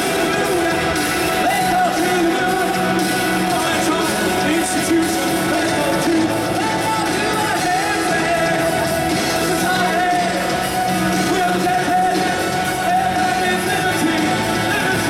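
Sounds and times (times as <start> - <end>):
live synth-pop band playing: 0.0 - 15.0
man singing: 0.0 - 15.0.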